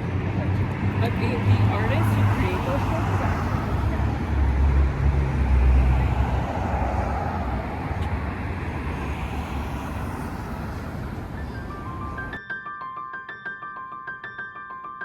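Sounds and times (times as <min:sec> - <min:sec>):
vehicle passing with low rumble: 0:00.0 - 0:12.3
steady road noise: 0:00.0 - 0:12.4.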